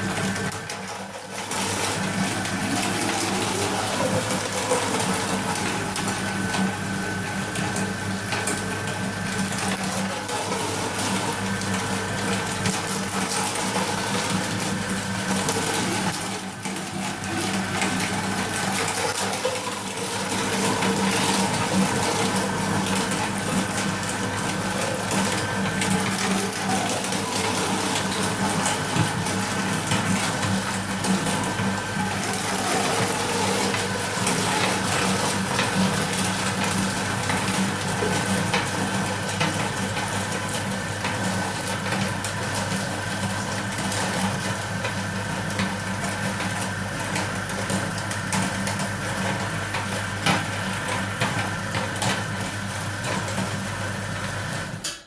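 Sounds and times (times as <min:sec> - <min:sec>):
meat grinder running: 0:00.0 - 0:55.0.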